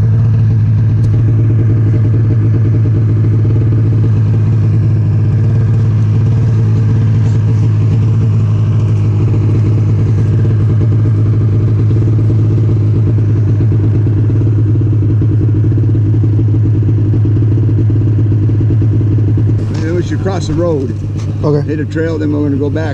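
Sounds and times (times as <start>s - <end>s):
snowmobile engine running: 0.0s - 22.9s.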